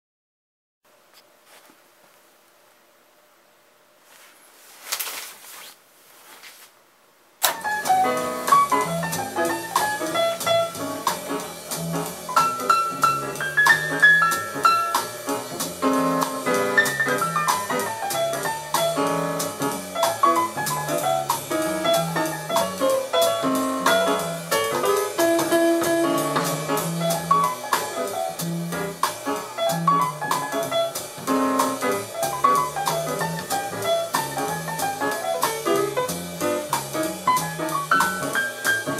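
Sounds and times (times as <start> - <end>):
drum kit: 7.4 - 38.9
jazz piano: 7.4 - 38.9.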